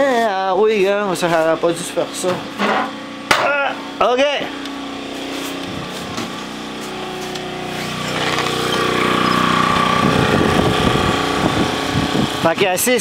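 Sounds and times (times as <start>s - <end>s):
gasoline generator engine running: 0.0s - 13.0s.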